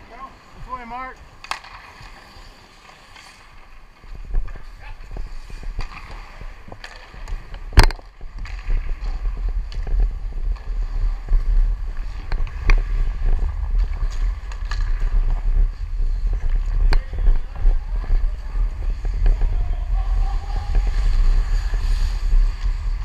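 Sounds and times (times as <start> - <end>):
skate blades scraping ice: 1.2 - 23.0
wind buffeting microphone: 4.1 - 23.0.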